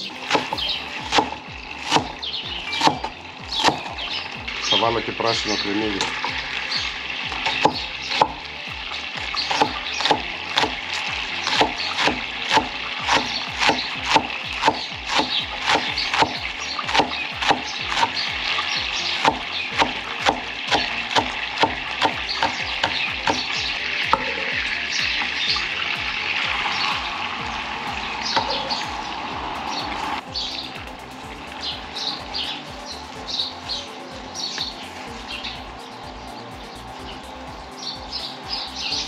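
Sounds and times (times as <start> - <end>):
herbs sizzling in butter: 0.0 - 33.6.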